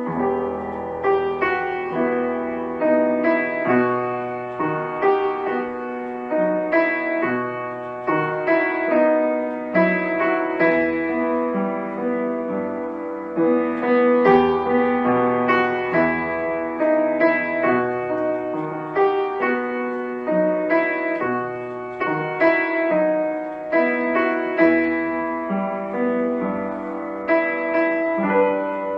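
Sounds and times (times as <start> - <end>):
piano piece: 0.0 - 28.9.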